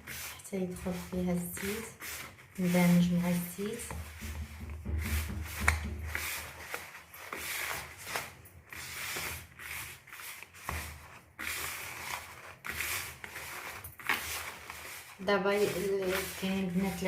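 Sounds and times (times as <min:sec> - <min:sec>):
hands rubbing flour in a bowl: 0:00.0 - 0:17.0.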